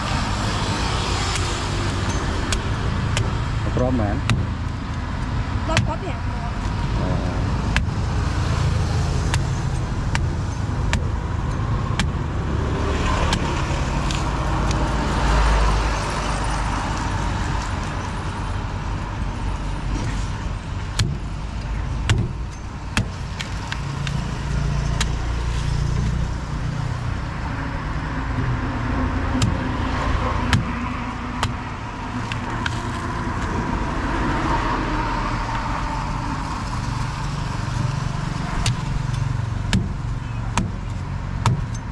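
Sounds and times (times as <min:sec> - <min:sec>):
road traffic rumble: 0:00.0 - 0:41.9.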